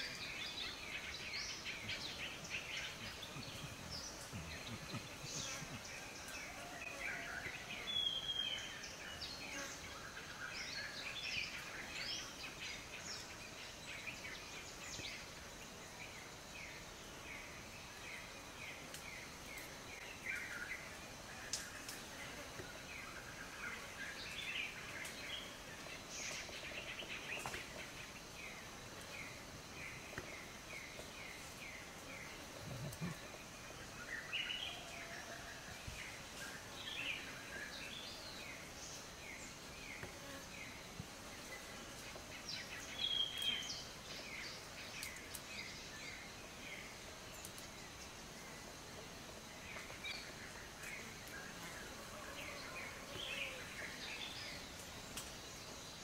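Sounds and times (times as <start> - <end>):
birds chirping: 0.0 - 56.0
high insect drone: 0.0 - 56.0.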